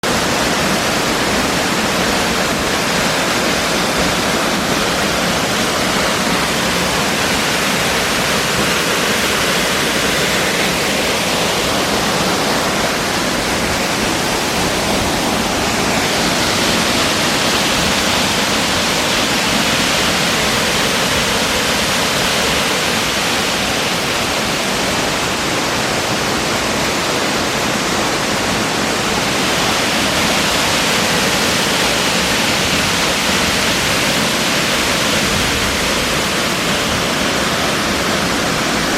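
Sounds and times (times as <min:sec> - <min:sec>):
waterfall: 0:00.0 - 0:38.9.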